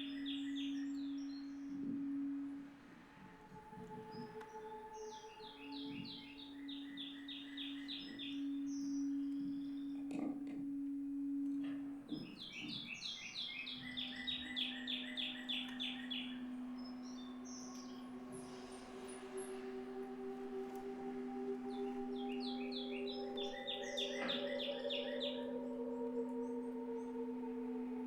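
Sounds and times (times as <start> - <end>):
long held low note: 0.0 - 28.0.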